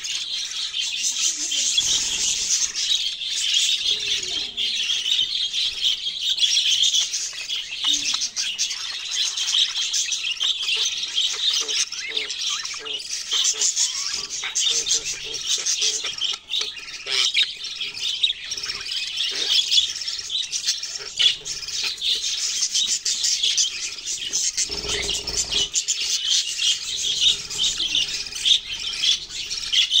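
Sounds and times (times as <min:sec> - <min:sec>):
budgerigars chirping and squawking: 0:00.0 - 0:30.0.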